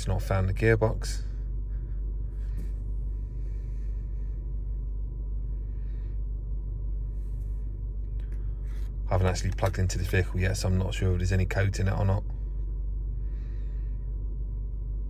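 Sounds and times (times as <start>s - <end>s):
low hum in car cabin: 0.0s - 15.0s.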